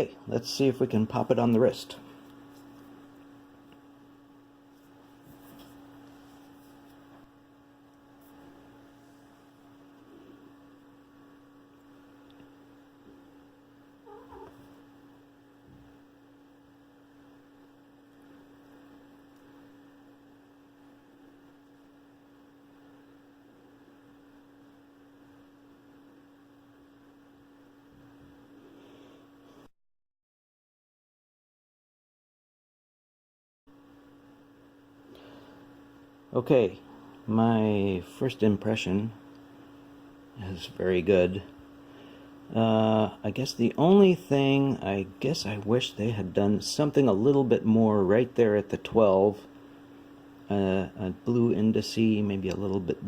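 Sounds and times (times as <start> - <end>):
faint steady hum: 0.0 - 29.7, 33.7 - 53.0.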